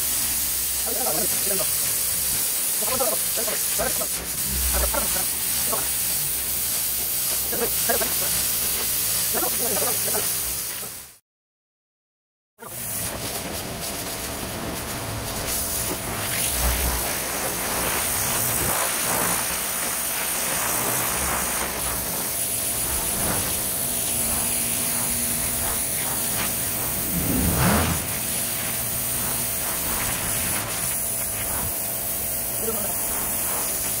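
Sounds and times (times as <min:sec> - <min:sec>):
pressure washer machine running: 0:00.0 - 0:10.5, 0:12.7 - 0:34.0
pressure washer water jet hiss: 0:00.0 - 0:11.2, 0:12.6 - 0:34.0.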